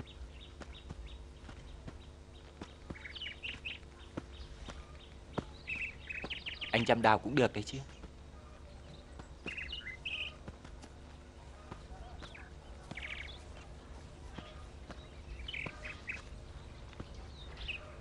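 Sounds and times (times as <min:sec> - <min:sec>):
faint steady hum: 0:00.0 - 0:18.0
small birds chirping: 0:00.0 - 0:18.0.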